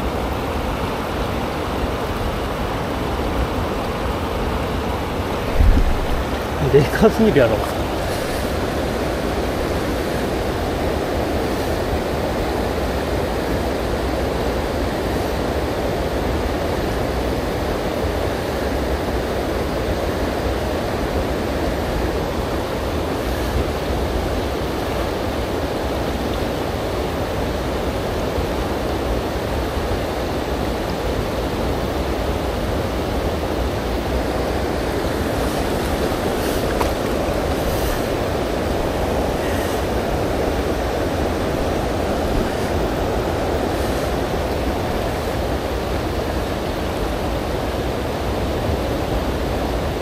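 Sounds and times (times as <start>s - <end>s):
river flowing over rocks: 0.0s - 50.0s.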